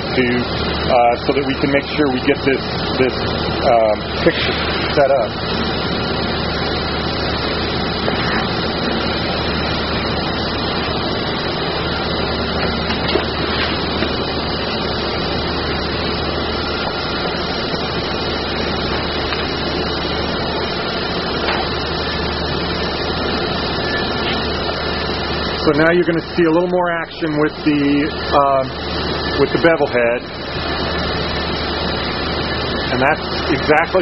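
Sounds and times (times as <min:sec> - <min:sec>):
waterjet machinery drone and hiss: 0:00.0 - 0:34.0.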